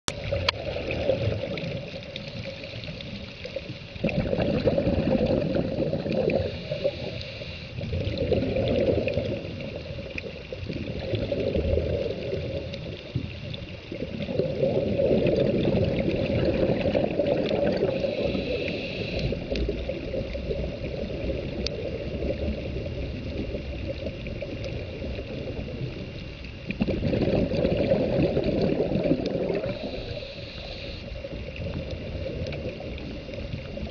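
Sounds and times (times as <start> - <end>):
underwater regulator bubbles: 0.1 - 33.9.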